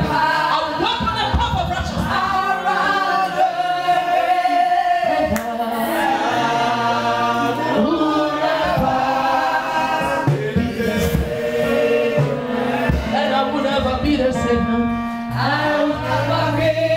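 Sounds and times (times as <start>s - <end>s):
group singing gospel song: 0.0s - 16.9s.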